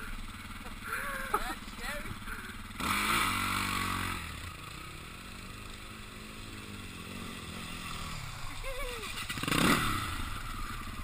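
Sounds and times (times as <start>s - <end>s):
dirt bike engine idling: 0.0s - 11.0s
dirt bike engine revving: 0.0s - 11.0s.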